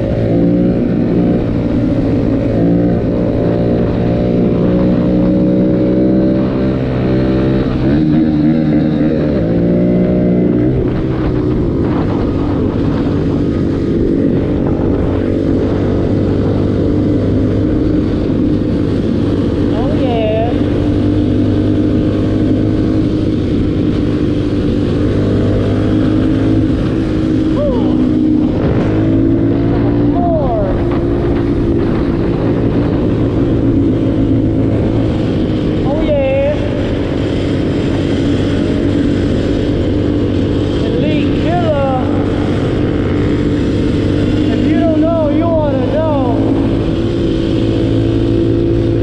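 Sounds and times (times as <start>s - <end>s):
dense rushing noise: 0.0s - 49.0s
motorcycle engine running: 0.0s - 49.0s.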